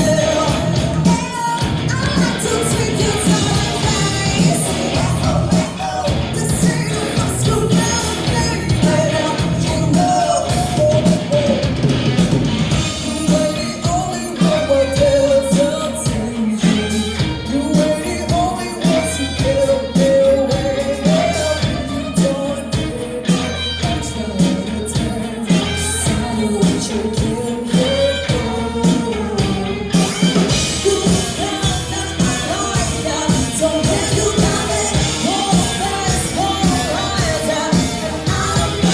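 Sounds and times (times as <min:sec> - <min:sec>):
woman singing lead vocal: 0:00.0 - 0:12.1, 0:12.7 - 0:38.9
live rock band playing: 0:00.0 - 0:38.9.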